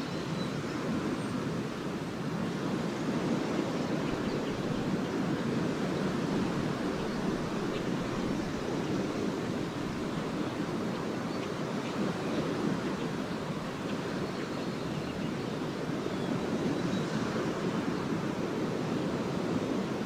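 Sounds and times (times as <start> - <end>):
surf washing onto beach: 0.6 - 20.0.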